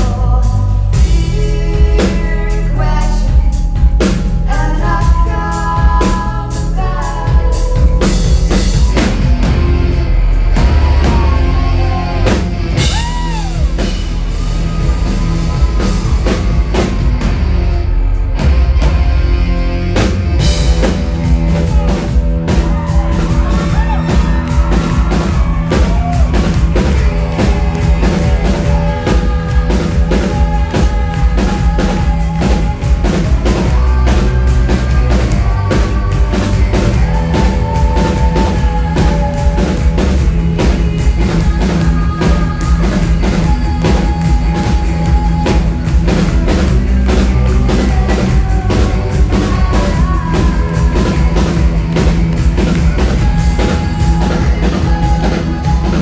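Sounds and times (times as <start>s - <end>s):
live rock band playing: 0.0s - 56.0s
drum beat: 7.6s - 17.6s, 20.0s - 56.0s.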